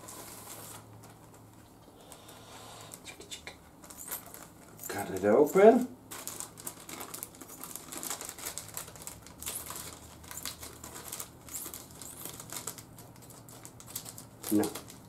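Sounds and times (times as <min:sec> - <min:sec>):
plastic crinkling: 0:00.0 - 0:15.0.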